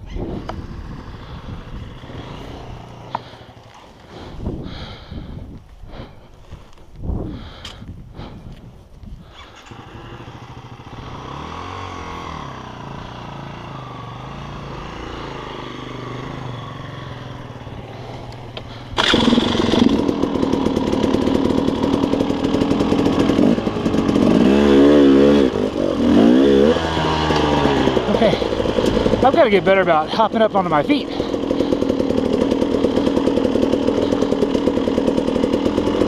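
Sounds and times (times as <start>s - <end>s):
dirt bike engine revving: 0.3s - 5.0s, 9.3s - 36.0s.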